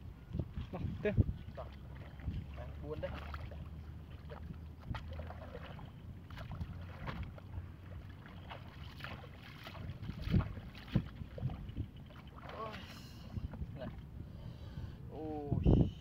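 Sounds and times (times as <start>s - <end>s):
low steady rumble: 0.0s - 16.0s
shallow water splashing: 0.3s - 14.4s.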